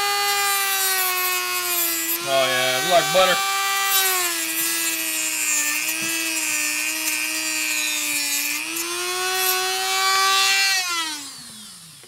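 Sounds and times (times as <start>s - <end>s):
hiss of cutting plastic: 0.0s - 10.9s
rotary tool whining: 0.0s - 12.0s.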